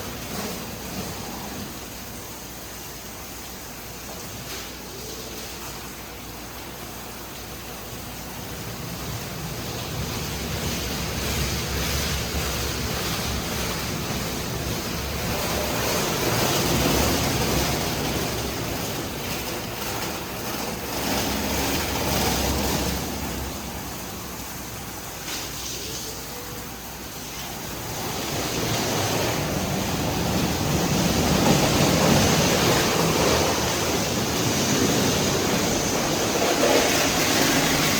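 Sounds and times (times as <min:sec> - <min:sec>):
high-pressure water spray hissing: 0:00.0 - 0:37.9.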